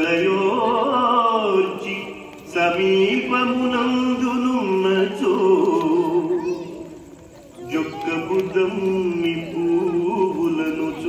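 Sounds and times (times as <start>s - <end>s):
man singing slow melody: 0.0s - 7.0s, 7.6s - 11.0s.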